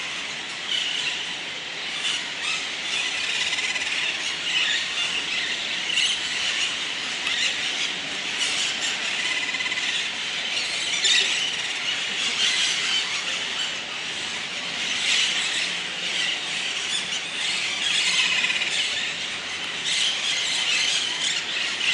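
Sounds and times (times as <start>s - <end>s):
parakeets screeching: 0.0s - 21.9s.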